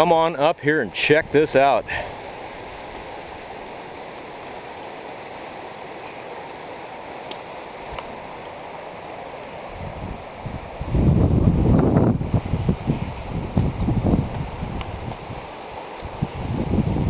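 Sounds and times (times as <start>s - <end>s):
creek water rushing over rocks: 0.0s - 17.0s.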